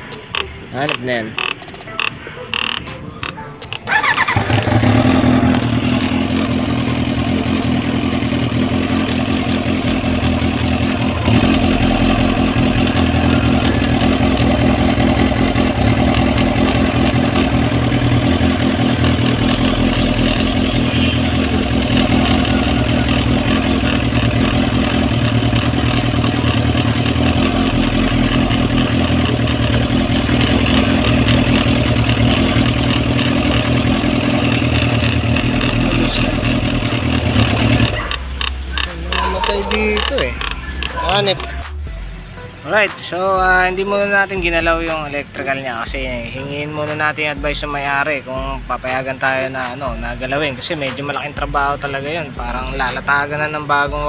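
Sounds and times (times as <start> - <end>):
motorcycle engine idling: 0.0 - 42.2, 43.4 - 54.0.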